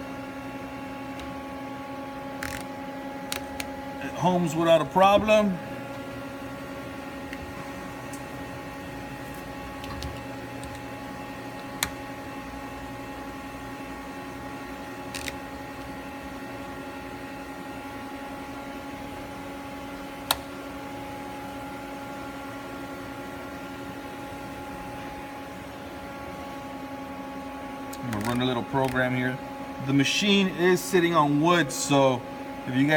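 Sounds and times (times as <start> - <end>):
machine hum: 0.0 - 32.9.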